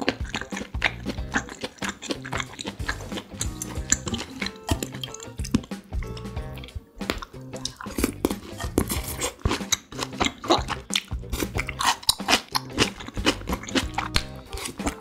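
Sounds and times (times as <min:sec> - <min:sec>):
close chewing with mouth clicks: 0:00.0 - 0:15.0.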